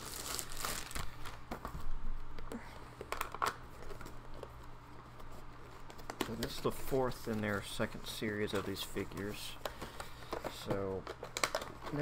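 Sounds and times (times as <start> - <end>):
plastic and cardboard packaging rustling: 0.0 - 2.3, 3.0 - 12.0.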